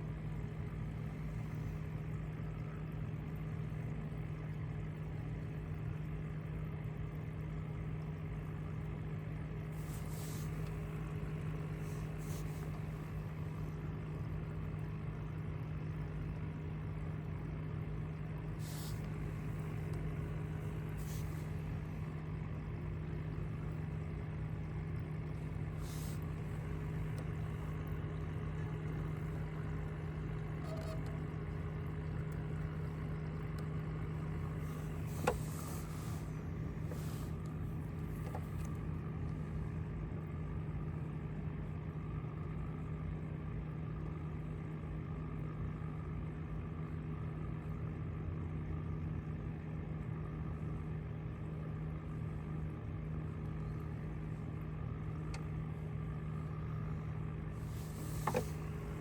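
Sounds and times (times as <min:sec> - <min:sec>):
motor humming steadily: 0:00.0 - 0:59.0.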